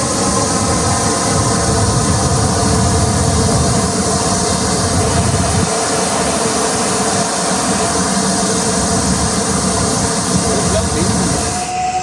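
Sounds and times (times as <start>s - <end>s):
steady hum and hiss: 0.0s - 12.0s
train rolling rumble: 0.0s - 12.0s.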